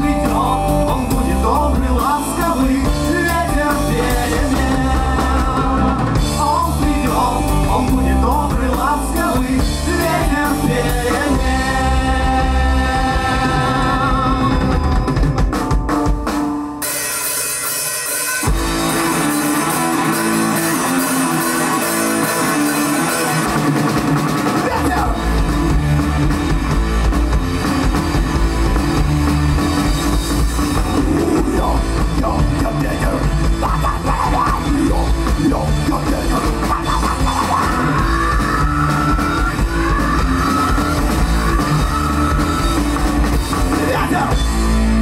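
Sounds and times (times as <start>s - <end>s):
rock band playing: 0.0s - 45.0s.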